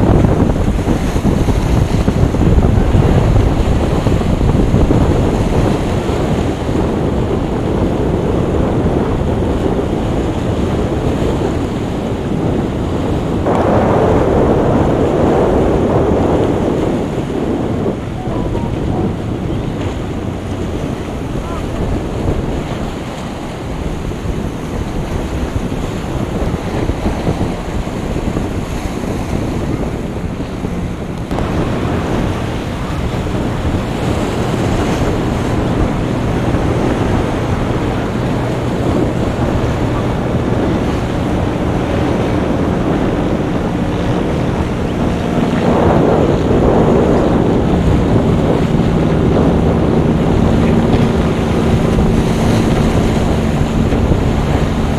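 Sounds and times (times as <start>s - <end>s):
surf washing: 0.0s - 54.9s
watercraft engine humming: 0.0s - 54.9s
wind buffeting microphone: 0.0s - 54.9s.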